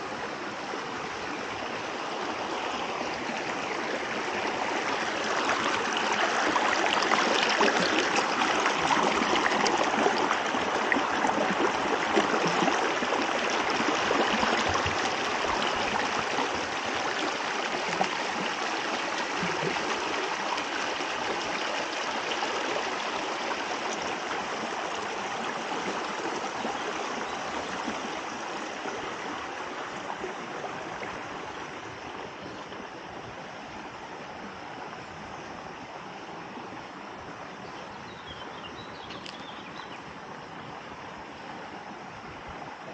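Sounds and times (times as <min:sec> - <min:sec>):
creek water babbling over stones: 0:00.0 - 0:42.9.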